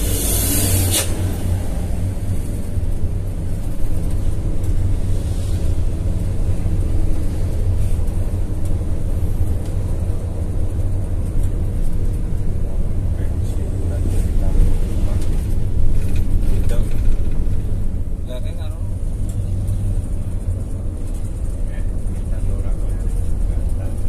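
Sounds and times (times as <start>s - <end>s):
bus engine droning: 0.0s - 24.0s
tyre and road noise: 0.0s - 24.0s.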